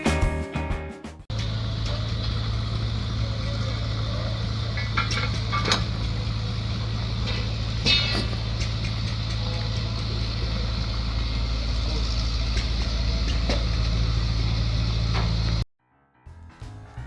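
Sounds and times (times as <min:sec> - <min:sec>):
motor vehicle drone: 0:01.3 - 0:15.6.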